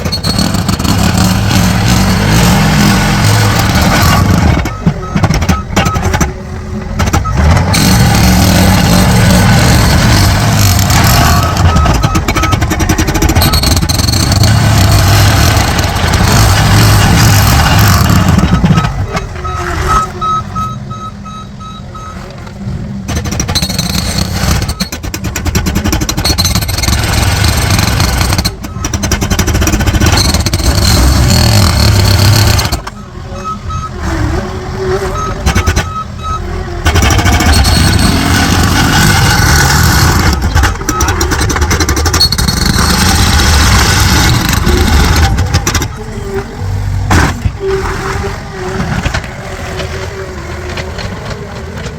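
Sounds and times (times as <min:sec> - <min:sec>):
reversing alarm beeping: 0:00.0 - 0:22.4, 0:23.2 - 0:25.0, 0:26.2 - 0:47.0
heavy construction machinery: 0:00.0 - 0:51.9.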